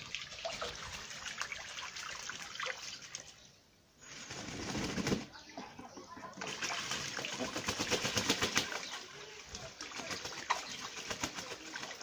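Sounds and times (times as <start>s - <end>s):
ducks splashing water: 0.0s - 12.0s.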